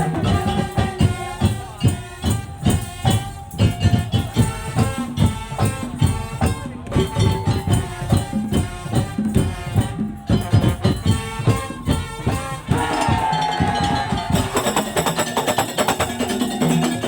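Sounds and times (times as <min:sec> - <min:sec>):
slit drums and drums rhythm: 0:00.0 - 0:17.0.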